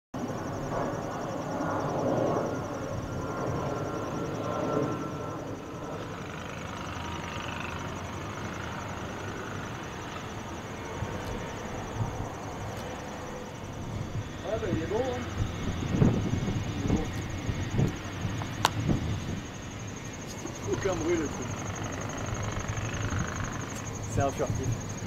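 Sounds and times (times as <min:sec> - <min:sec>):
crickets chirping: 0:00.2 - 0:25.0
distant jet engine rumble: 0:00.2 - 0:25.0.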